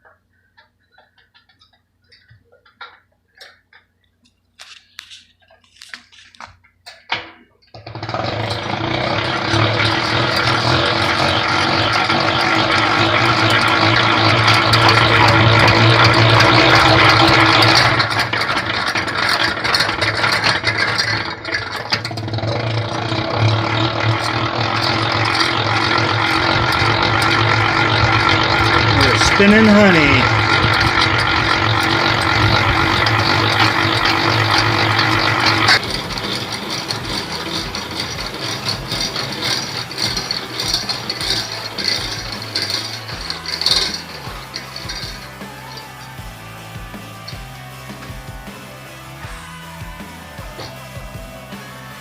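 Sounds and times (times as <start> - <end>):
extractor drum whirring: 7.8 - 52.0.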